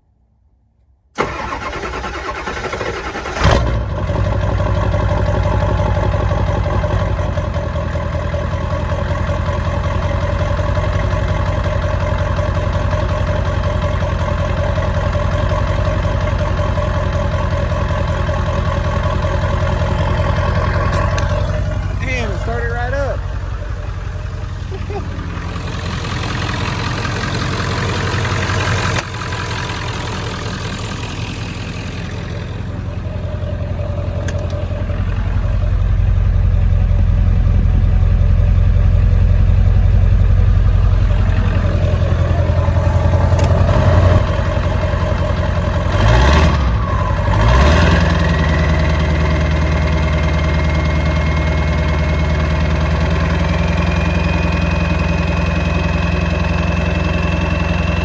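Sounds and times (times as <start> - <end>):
diesel engine idling and revving: 1.2 - 58.0.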